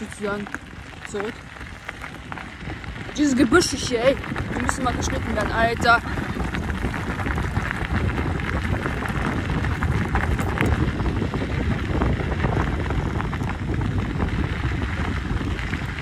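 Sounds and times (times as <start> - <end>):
tyres crunching over gravel: 0.0 - 16.0
wind rushing over microphone: 0.0 - 16.0.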